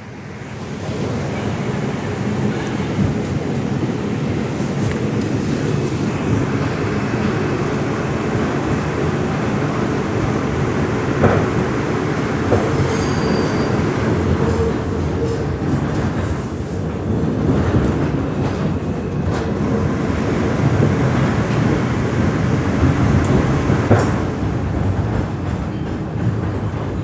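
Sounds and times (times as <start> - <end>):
subway wheels rumbling on rails: 0.0 - 27.0.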